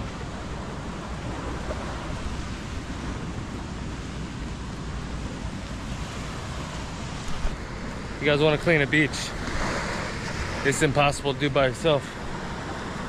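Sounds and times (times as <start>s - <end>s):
surf washing on beach: 0.0s - 13.0s.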